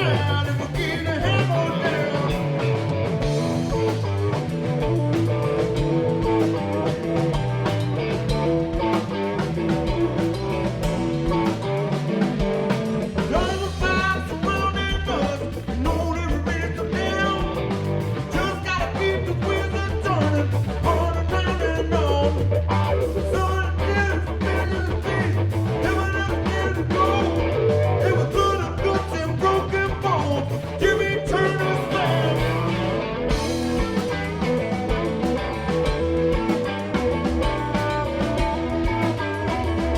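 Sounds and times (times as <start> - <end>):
bass guitar: 0.0 - 39.9
electric guitar lines: 0.0 - 39.9
rock band playing: 0.0 - 39.9.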